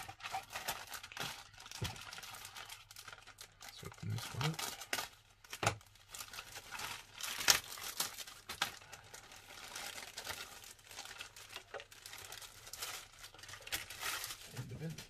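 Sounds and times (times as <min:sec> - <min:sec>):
plastic bag crinkling: 0:00.0 - 0:15.0
sharp plastic crackle: 0:00.0 - 0:15.0.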